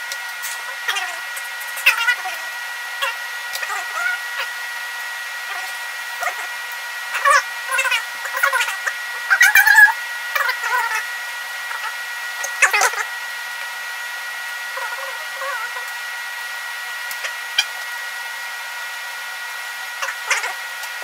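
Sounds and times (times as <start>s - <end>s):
steady hiss and whine: 0.0s - 21.0s.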